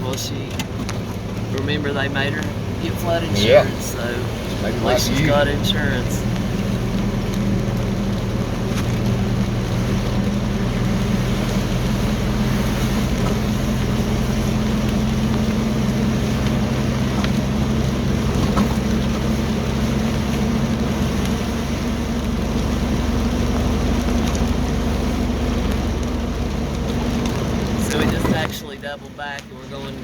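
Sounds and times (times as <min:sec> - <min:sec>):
tyres on wet road: 0:00.0 - 0:30.0
vehicle engine hum: 0:00.0 - 0:30.0.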